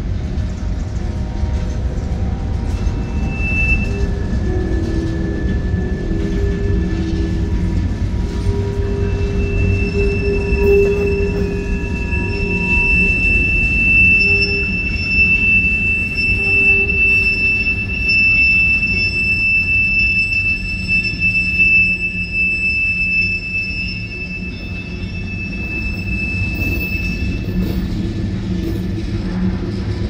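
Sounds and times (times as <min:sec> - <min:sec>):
freight train rumbling past: 0:00.0 - 0:20.8, 0:23.7 - 0:30.0
train wheels squealing: 0:00.0 - 0:30.0.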